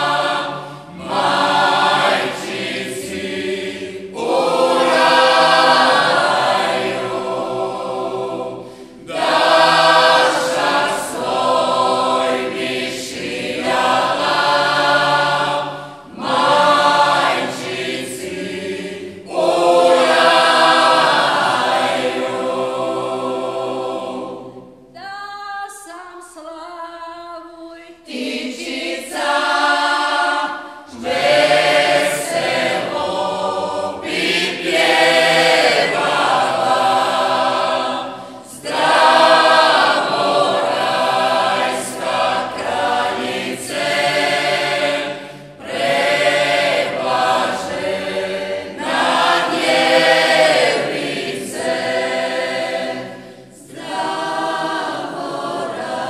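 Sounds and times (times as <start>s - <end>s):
vocal group singing a cappella hymn: 0.0s - 56.0s.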